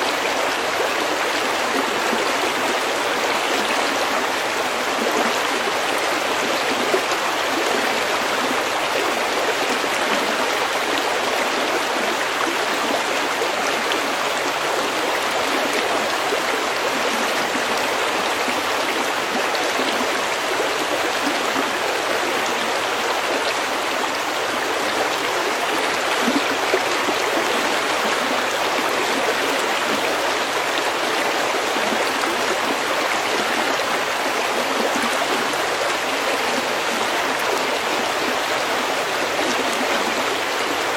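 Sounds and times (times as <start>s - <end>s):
stream flowing over pebbles: 0.0s - 40.9s.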